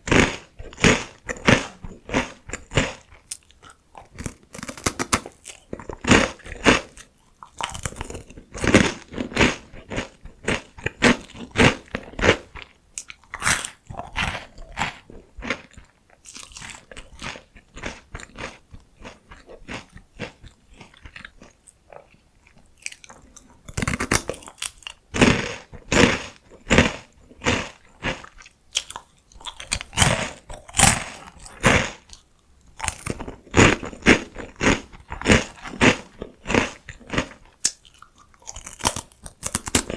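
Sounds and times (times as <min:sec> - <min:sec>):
crunchy chewing of crisp snacks: 0:00.0 - 0:39.9.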